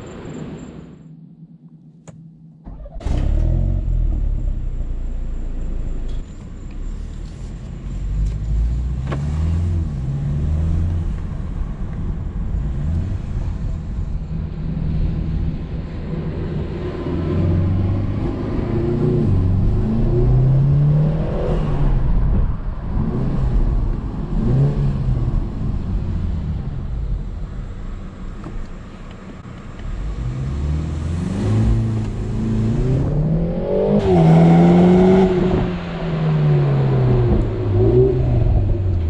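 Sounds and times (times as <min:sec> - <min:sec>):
car engine accelerating: 0:02.0 - 0:39.0.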